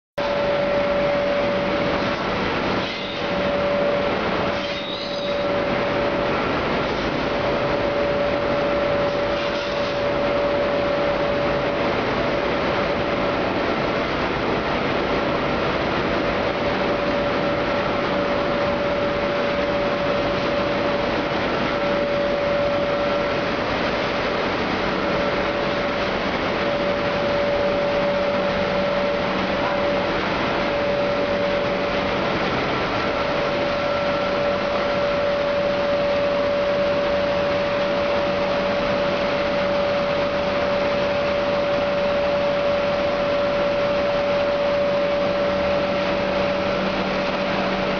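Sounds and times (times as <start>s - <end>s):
machine whine and hum: 0.2s - 47.9s.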